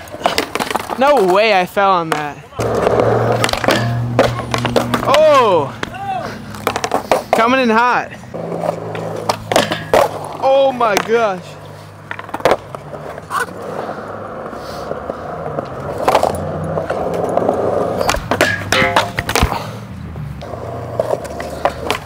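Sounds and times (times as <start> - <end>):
skateboard clacks: 0.0 - 19.7, 20.4 - 22.0
skateboard wheels rolling on concrete: 0.0 - 22.0.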